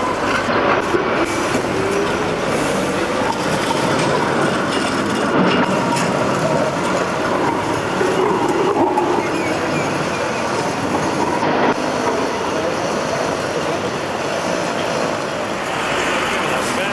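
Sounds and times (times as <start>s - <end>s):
faint tram whine: 0.0s - 16.9s
tram rolling on track: 0.0s - 16.9s.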